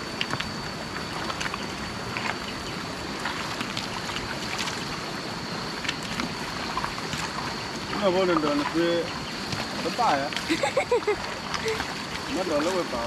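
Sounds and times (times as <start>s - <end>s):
small water splashes: 0.0s - 13.0s
stream water rushing: 0.0s - 13.0s.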